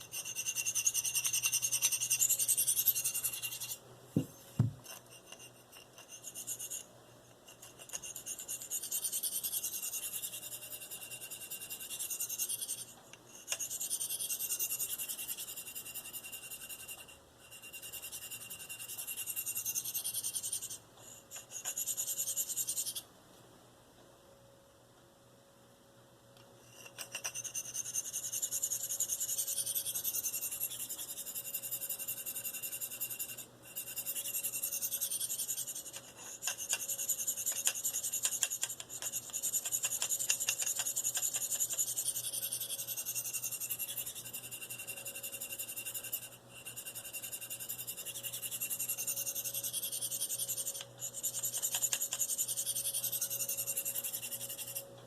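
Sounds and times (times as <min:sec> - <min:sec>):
knife scraping sharpening stone: 0:00.0 - 0:23.0, 0:26.6 - 0:54.9.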